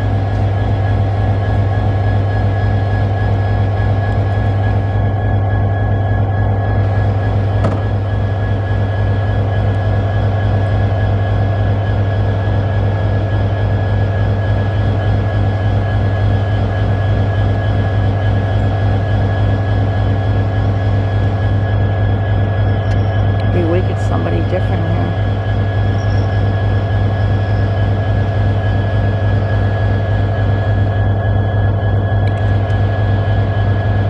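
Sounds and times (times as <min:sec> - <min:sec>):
diesel locomotive idling: 0:00.0 - 0:34.0.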